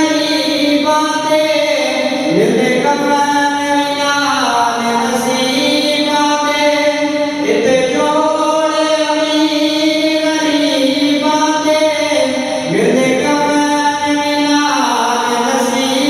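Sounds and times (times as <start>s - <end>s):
person chanting over loudspeakers: 0.0s - 16.0s.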